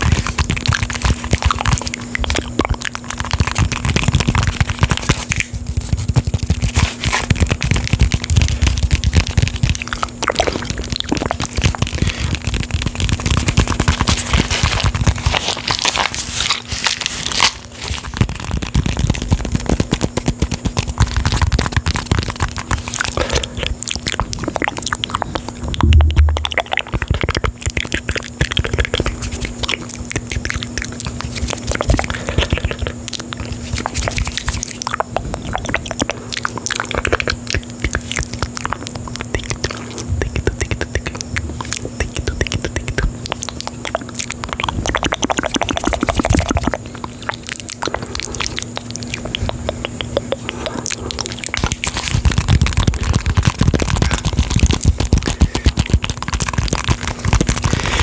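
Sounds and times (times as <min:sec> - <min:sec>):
crackling and scratching on microphone: 0:00.0 - 0:58.0.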